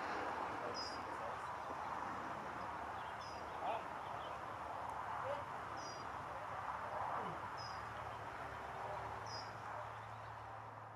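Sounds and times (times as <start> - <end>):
faint background noise: 0.0 - 10.9.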